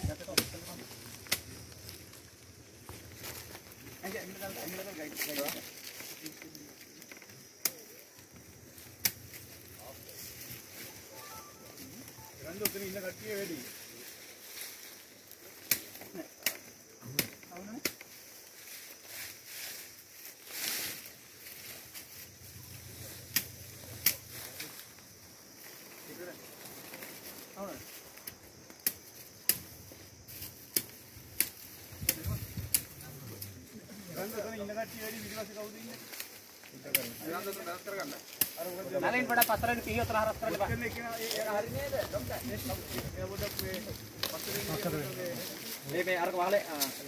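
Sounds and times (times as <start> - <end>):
steady hiss: 0.0 - 47.0.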